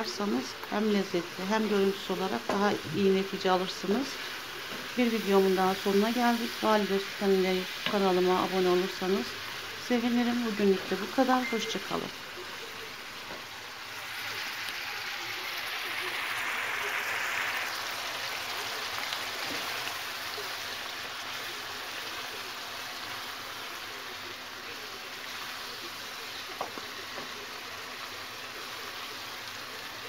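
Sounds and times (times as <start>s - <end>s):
food sizzling in a frying pan: 0.0s - 30.0s.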